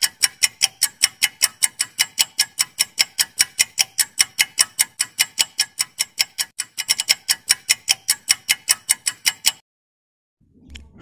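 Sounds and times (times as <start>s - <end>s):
quick clock ticking: 0.0s - 9.6s.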